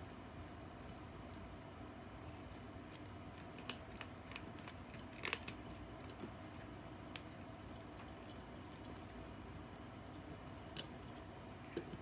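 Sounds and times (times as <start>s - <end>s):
faint steady hum: 0.0s - 12.0s
kitten crunching kibble: 0.0s - 12.0s.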